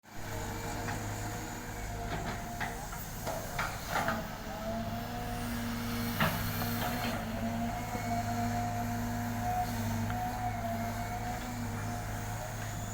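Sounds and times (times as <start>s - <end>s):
excavator engine running: 0.2s - 12.9s.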